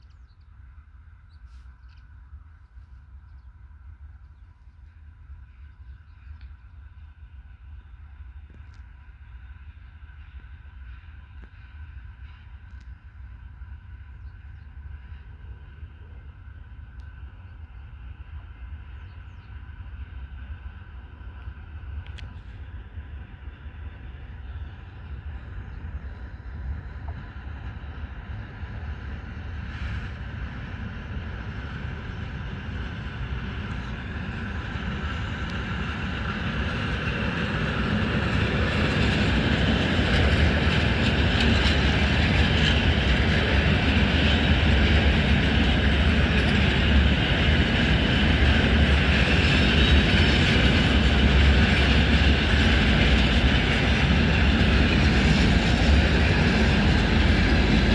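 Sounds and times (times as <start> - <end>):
freight train passing: 0.4 - 57.9.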